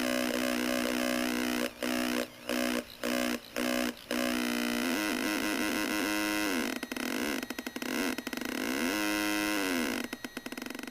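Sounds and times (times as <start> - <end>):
buzzy synthesized gliding tones: 0.0 - 10.0.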